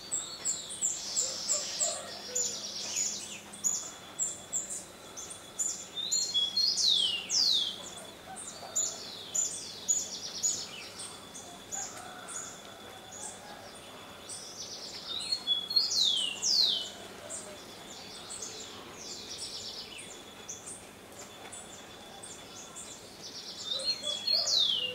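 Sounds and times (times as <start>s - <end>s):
birds chirping and trilling: 0.0s - 24.9s.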